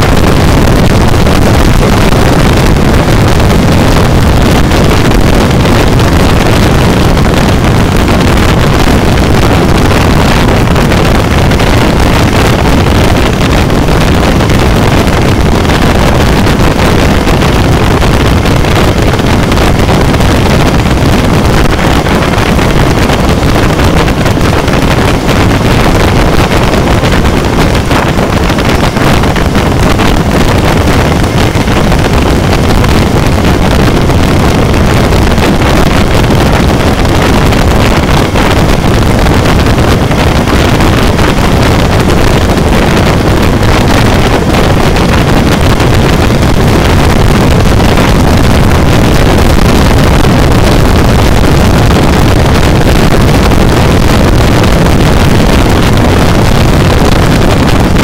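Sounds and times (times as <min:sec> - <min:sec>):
motorcycle engine running: 0:00.0 - 0:48.8
wind buffeting microphone: 0:00.0 - 0:58.0.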